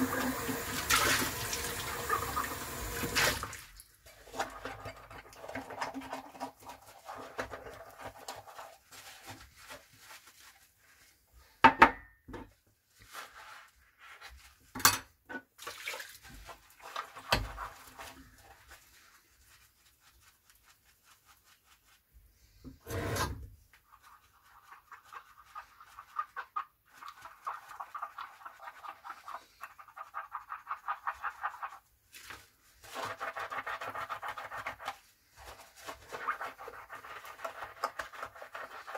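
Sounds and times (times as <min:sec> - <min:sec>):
sponge scrubbing dishes: 0:04.0 - 0:11.1, 0:12.9 - 0:14.7, 0:15.5 - 0:38.9.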